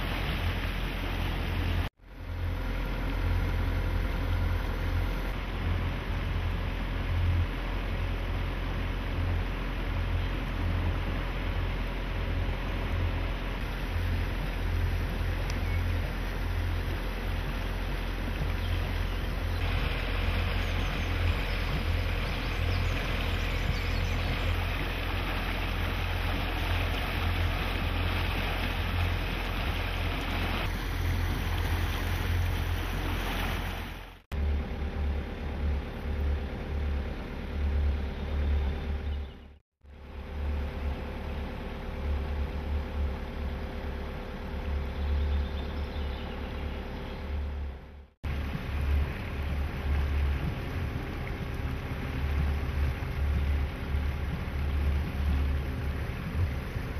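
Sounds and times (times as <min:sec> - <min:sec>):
motorboat engine running: 0:00.0 - 0:56.9
water rushing along hull: 0:00.0 - 0:56.9.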